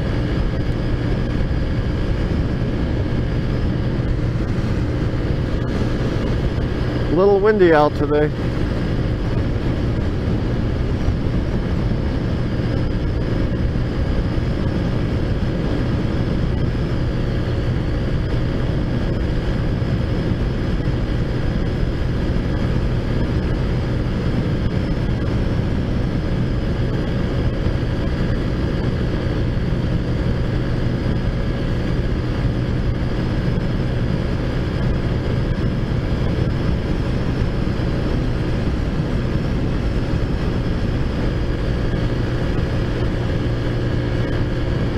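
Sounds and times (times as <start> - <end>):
scooter engine cruising: 0.0 - 44.9
wind noise on microphone: 0.0 - 44.9.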